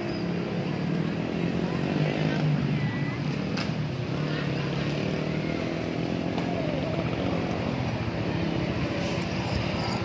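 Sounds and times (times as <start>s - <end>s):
traffic noise: 0.0s - 10.0s.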